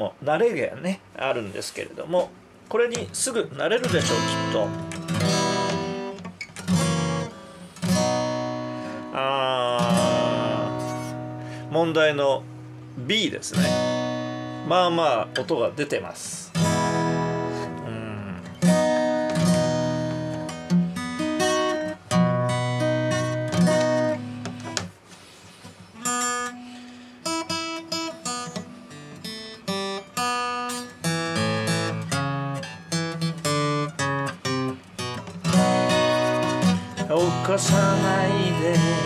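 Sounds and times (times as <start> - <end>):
acoustic guitar chords strummed: 2.4 - 39.0.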